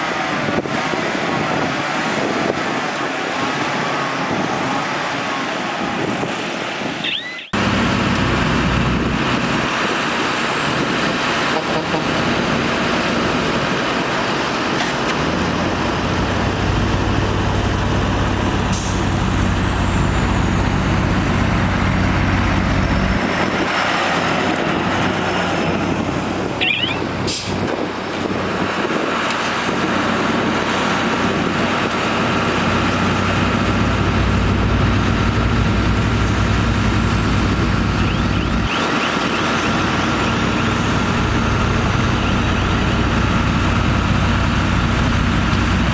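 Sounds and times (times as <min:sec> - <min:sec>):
bulldozer diesel engine working: 0:00.0 - 0:45.9.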